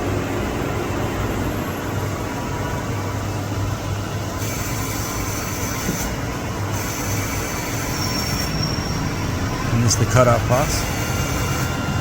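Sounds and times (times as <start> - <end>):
high machine whine: 0.0 - 12.0
lathe machine noise: 0.0 - 12.0.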